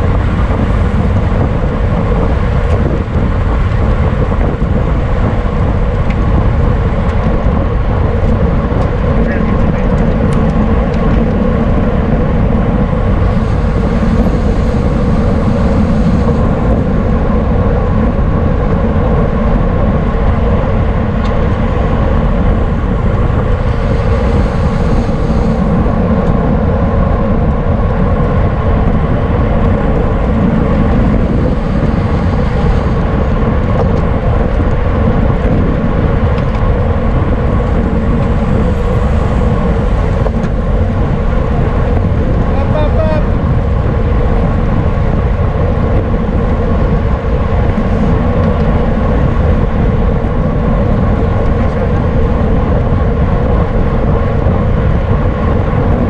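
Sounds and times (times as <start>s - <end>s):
tyres humming on road: 0.0s - 56.0s
wind rushing across microphone: 0.0s - 56.0s.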